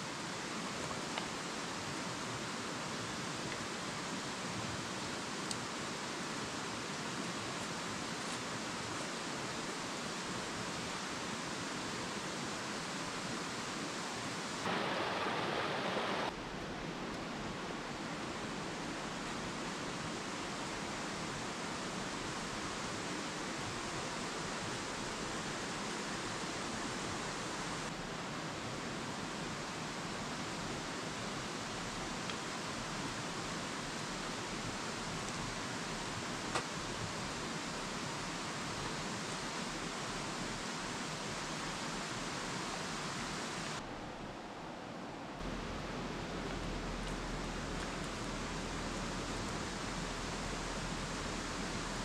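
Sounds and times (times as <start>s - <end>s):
stream flowing over stones: 0.0s - 44.2s, 45.4s - 52.0s.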